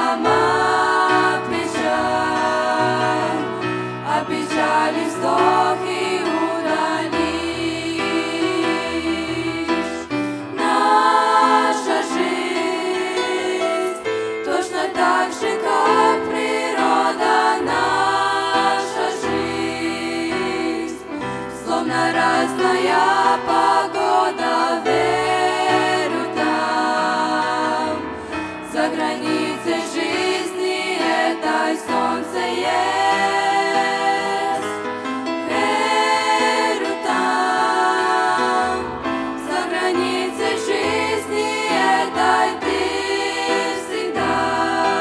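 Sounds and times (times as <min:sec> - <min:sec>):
girls singing in harmony: 0:00.0 - 0:45.0.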